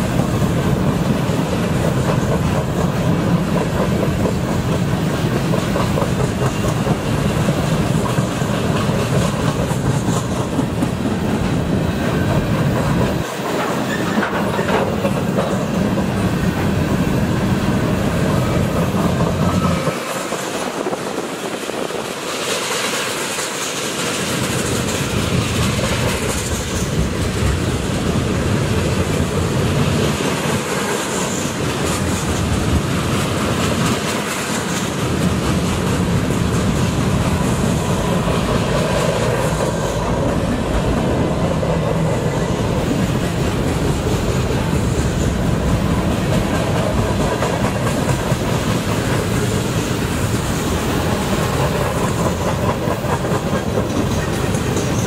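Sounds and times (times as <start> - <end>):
freight cars rolling on rails: 0.0 - 55.0.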